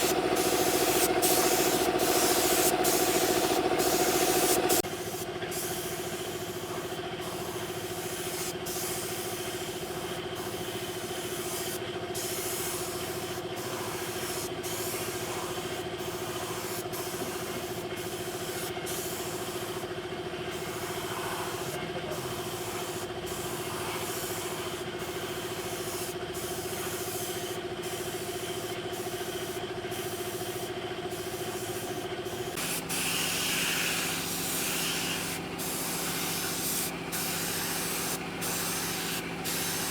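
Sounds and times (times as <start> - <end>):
small motor hissing and rubbing: 0.0 - 9.8, 10.4 - 19.8, 20.6 - 28.2, 31.2 - 39.9.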